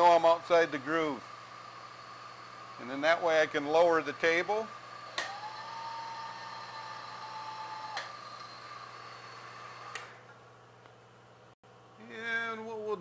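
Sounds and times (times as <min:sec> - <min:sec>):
motor whine: 0:00.0 - 0:10.6
mill spindle running: 0:00.0 - 0:10.7.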